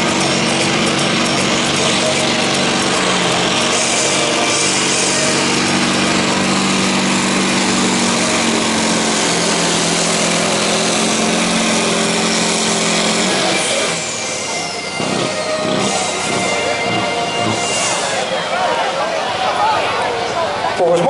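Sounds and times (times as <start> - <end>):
truck diesel engine revving high: 0.0 - 20.7.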